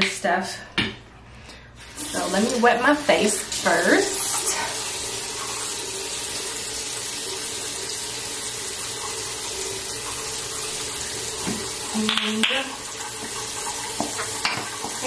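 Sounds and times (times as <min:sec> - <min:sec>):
water running from tap: 0:01.8 - 0:15.0.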